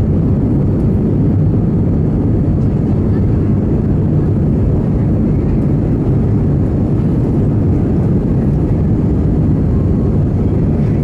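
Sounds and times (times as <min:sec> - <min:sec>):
aircraft engines in cabin: 0:00.0 - 0:11.0.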